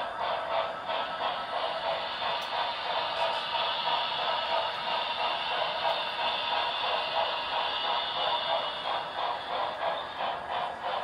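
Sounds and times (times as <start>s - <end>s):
model train rolling on track: 0.0s - 11.0s.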